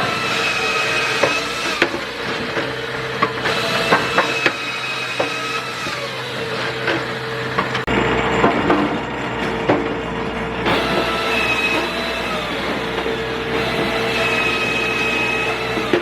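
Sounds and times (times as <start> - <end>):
high squeal: 0.0 - 16.0
machinery humming: 0.0 - 16.0
wood pieces knocking on machine: 0.0 - 16.0.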